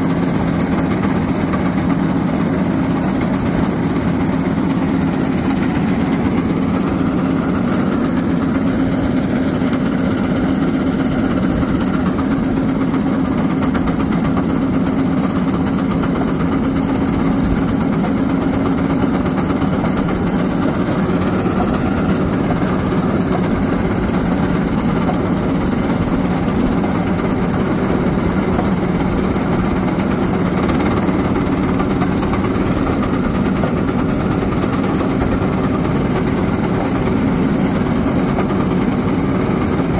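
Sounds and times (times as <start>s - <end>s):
railcart engine drone: 0.0s - 39.9s.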